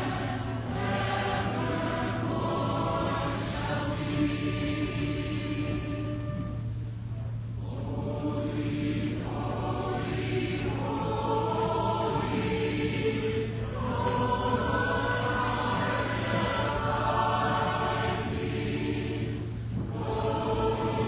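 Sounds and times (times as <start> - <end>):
choir singing chords: 0.0 - 21.0
steady low hum: 0.0 - 21.0.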